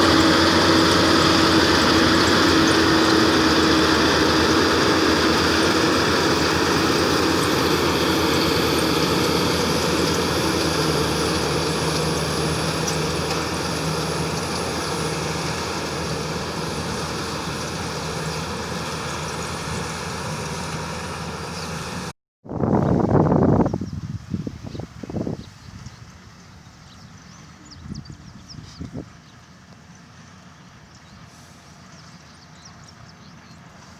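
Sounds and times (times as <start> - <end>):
combine harvester running: 0.0 - 22.1, 22.7 - 33.9.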